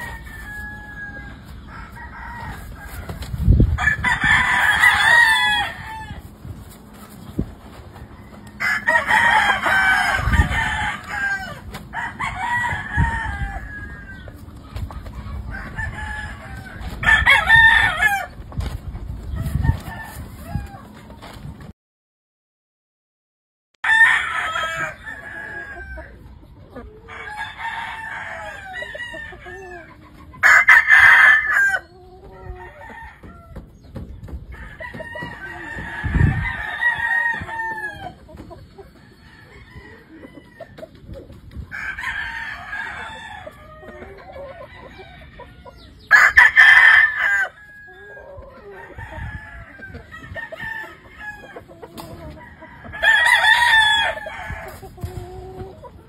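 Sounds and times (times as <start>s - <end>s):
roosters crowing: 0.0s - 21.3s, 23.8s - 56.0s.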